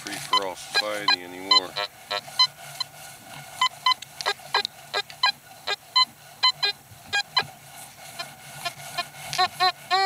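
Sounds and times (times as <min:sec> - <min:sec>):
metal detector beeps: 0:00.2 - 0:02.9, 0:03.6 - 0:07.5, 0:08.2 - 0:10.0.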